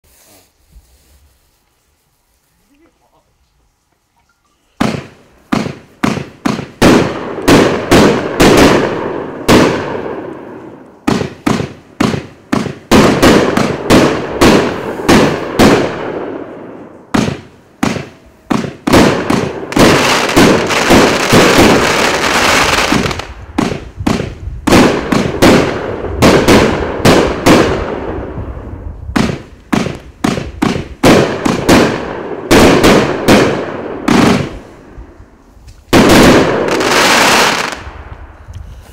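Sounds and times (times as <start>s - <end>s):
fireworks cake bangs and crackling: 4.8s - 38.9s.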